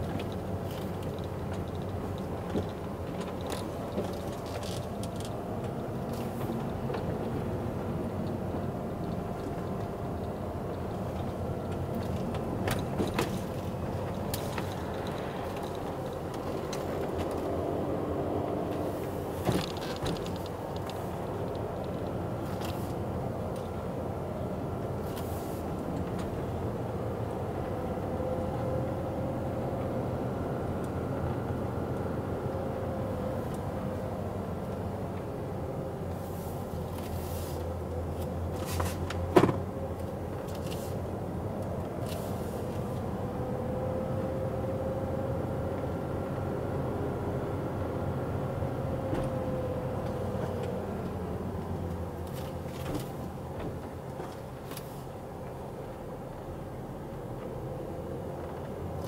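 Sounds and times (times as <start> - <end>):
car engine while driving: 0.0 - 59.0
road noise inside car: 0.0 - 59.0.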